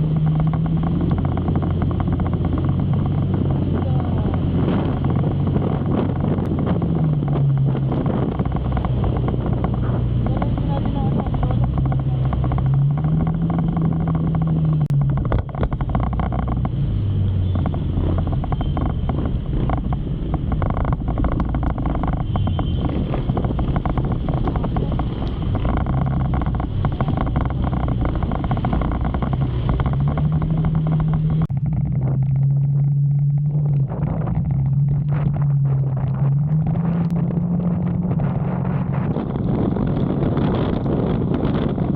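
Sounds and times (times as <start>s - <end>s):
motorcycle engine revving: 0.0s - 41.9s
steady rush of noise: 0.0s - 41.9s.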